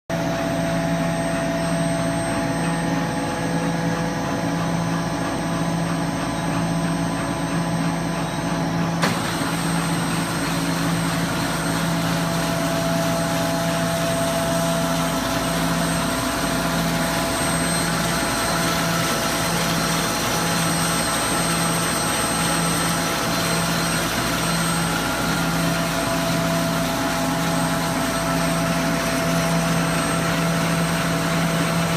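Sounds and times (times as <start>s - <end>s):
printer mechanical hum and whir: 0.1s - 31.9s.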